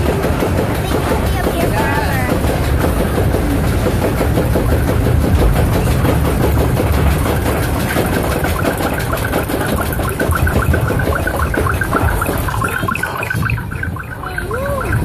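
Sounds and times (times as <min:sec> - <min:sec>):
heavy low rumble: 0:00.0 - 0:15.0.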